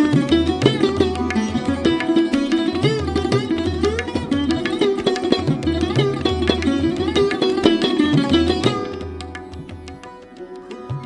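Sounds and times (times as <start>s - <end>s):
sarod plucked melody: 0.0s - 11.0s
tabla drumming: 0.0s - 11.0s.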